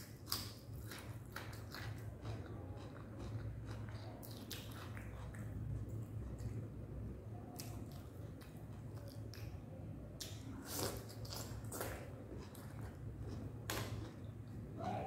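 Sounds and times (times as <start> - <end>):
wet chewing and lip smacks: 0.0 - 6.8, 7.5 - 9.6, 10.2 - 14.6
low steady hum: 0.0 - 15.0.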